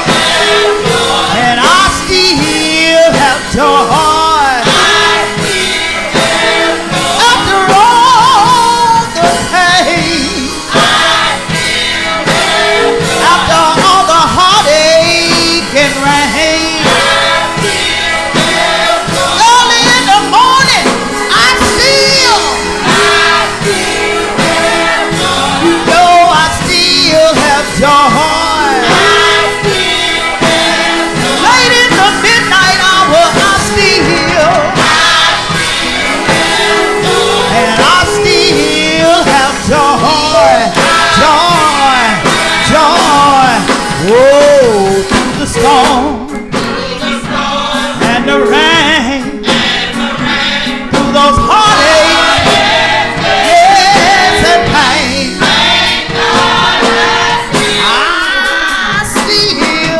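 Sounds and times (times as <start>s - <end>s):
instrumental backing: 0.0s - 59.9s
person singing gospel: 0.0s - 59.9s.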